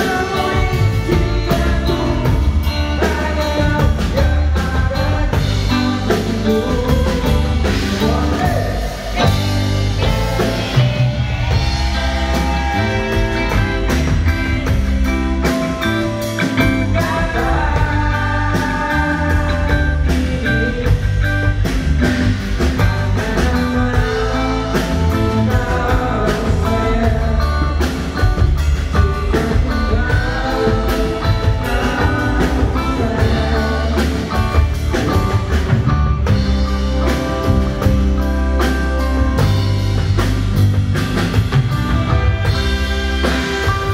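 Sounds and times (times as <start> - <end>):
person singing: 0.0 - 39.4
live band playing: 0.0 - 43.9.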